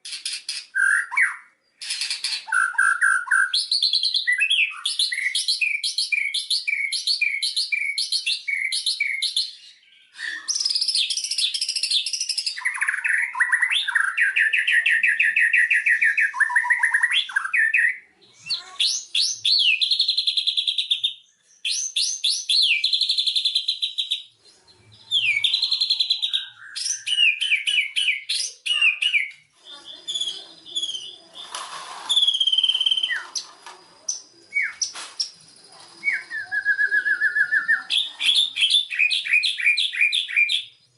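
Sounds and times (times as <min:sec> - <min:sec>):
songbird singing whistled phrases: 0:00.2 - 0:40.9.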